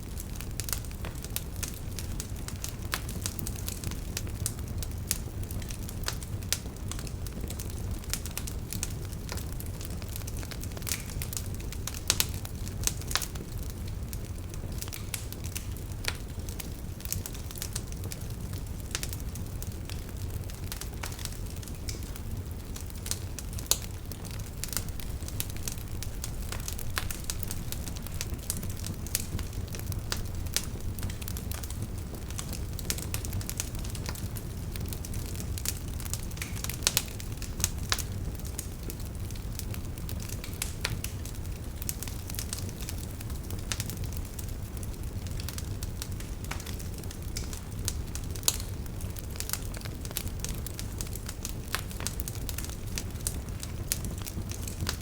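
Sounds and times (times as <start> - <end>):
burning wood crackling and popping: 0.0 - 55.0
low rumble of flame: 0.0 - 55.0.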